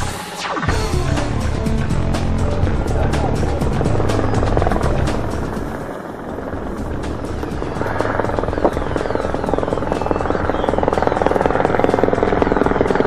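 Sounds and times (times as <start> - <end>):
helicopter rotor chopping: 0.0 - 13.0.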